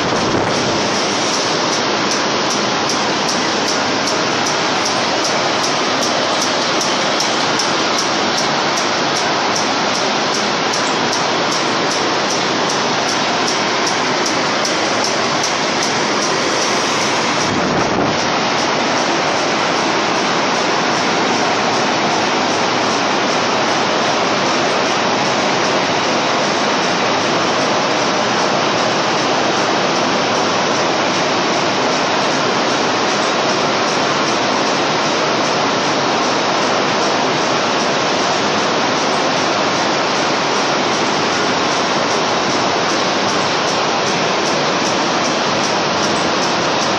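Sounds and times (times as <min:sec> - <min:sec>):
carding machines roaring: 0:00.0 - 0:46.9.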